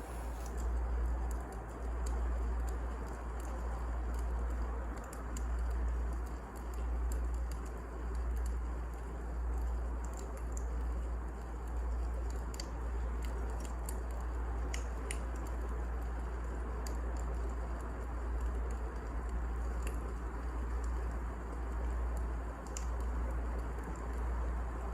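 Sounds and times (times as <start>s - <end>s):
fire crackles and pops: 0.0s - 24.9s
wood fire rumbling and hissing: 0.0s - 24.9s.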